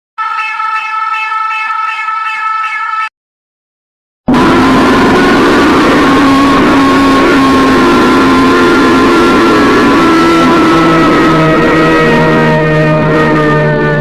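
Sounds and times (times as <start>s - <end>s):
distorted emergency alarm tone: 0.2s - 3.1s, 4.3s - 14.0s.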